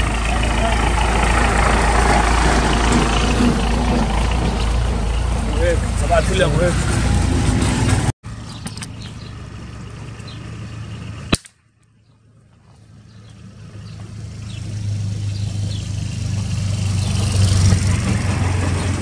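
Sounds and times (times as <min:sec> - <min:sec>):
motor tricycle engine: 0:00.0 - 0:11.4, 0:12.0 - 0:19.0.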